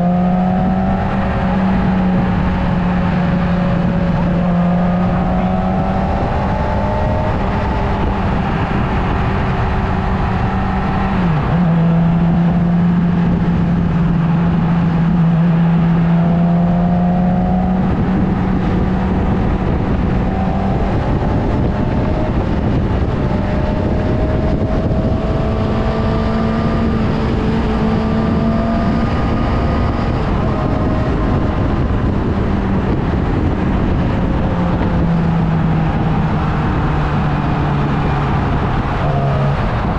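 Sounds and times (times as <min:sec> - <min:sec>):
motorcycle engine running: 0:00.0 - 0:39.9
road noise rushing: 0:00.0 - 0:39.9.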